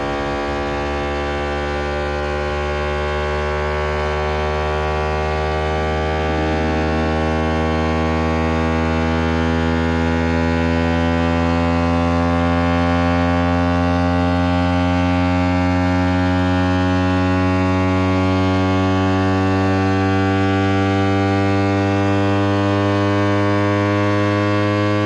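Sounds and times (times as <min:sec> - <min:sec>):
low electronic hum tone: 0:00.0 - 0:25.0.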